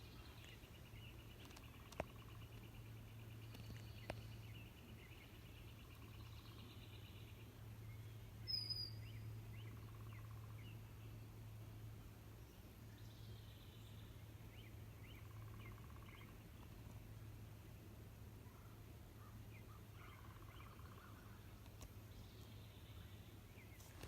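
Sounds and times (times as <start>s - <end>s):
low steady hum: 0.0s - 24.0s
songbirds chirping: 0.0s - 24.0s.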